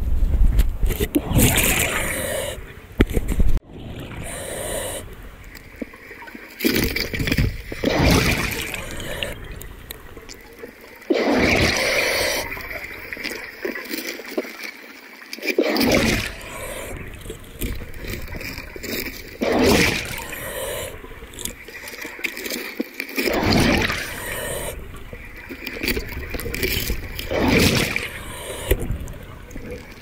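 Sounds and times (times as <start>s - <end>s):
underwater bubbling and gurgling: 0.8s - 30.0s
steady water hiss: 1.5s - 3.0s, 4.0s - 30.0s.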